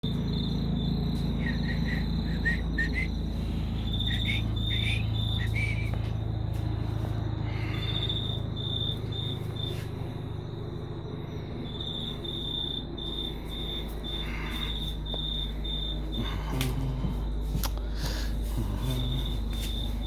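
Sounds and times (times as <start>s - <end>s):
crickets chirping: 0.0s - 20.0s
low hum: 0.0s - 20.0s.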